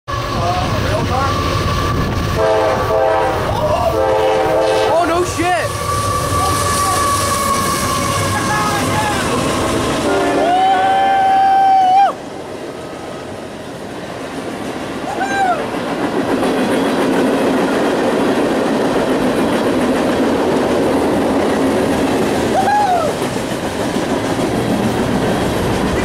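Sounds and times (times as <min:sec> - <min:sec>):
freight train rumbling and clattering: 0:00.1 - 0:26.0.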